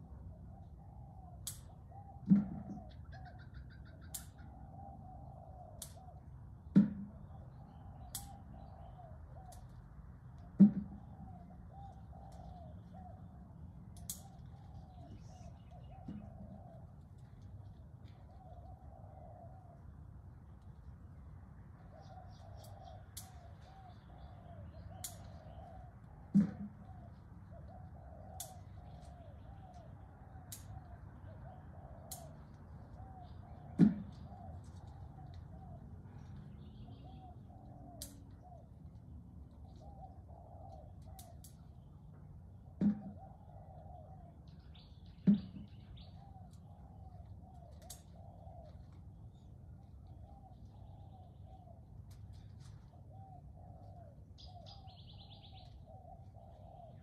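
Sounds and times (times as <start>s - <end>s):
birds calling: 0.0s - 21.0s, 21.7s - 57.0s.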